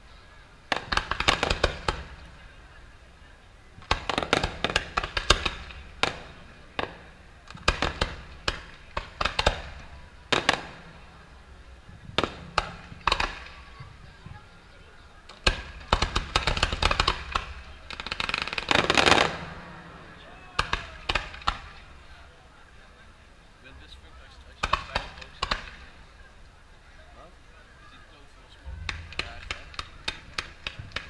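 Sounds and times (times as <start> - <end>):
fireworks bangs: 0.7 - 23.2, 23.8 - 26.3, 28.6 - 31.0.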